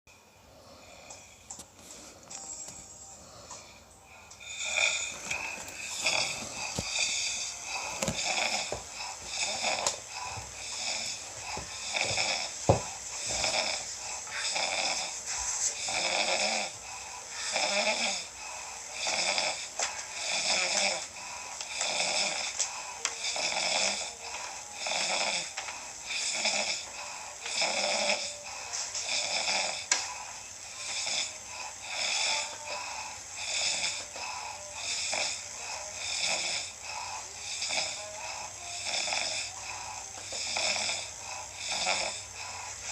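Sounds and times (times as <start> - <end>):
rhythmic snoring: 0.1 - 42.9.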